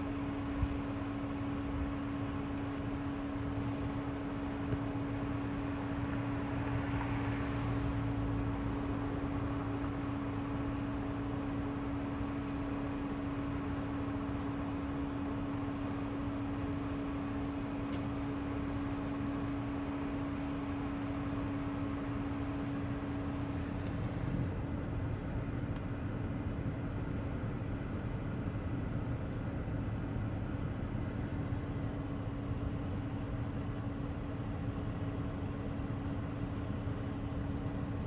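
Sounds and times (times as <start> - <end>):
low rumble with hum: 0.0 - 38.0.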